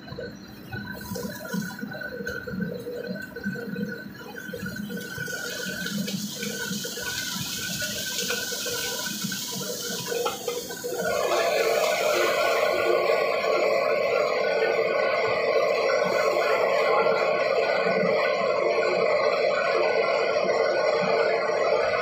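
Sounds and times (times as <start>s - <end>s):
gas wok burner running: 0.0s - 22.0s
oil sizzling in a wok: 0.9s - 21.9s.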